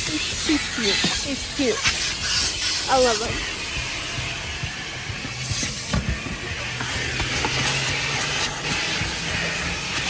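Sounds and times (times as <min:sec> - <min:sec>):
vacuum suction hiss and hum: 0:00.0 - 0:10.0.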